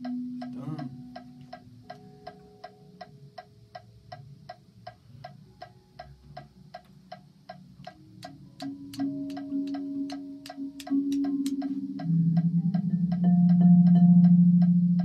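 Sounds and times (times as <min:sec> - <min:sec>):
metronome clicking: 0:00.0 - 0:15.0.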